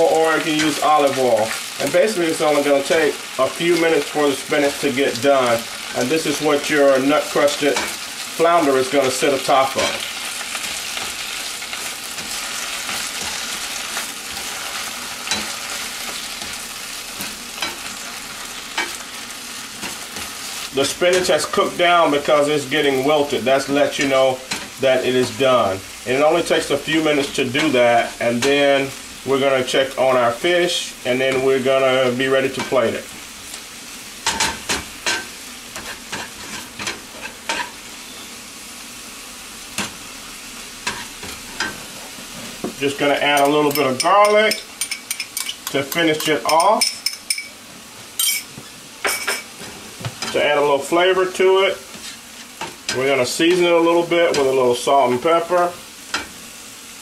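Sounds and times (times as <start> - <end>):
spinach sizzling in oil: 0.0 - 57.0.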